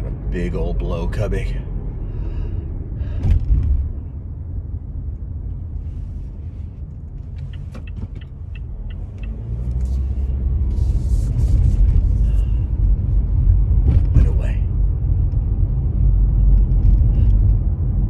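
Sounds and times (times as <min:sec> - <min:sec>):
low rumble inside car: 0:00.0 - 0:18.0.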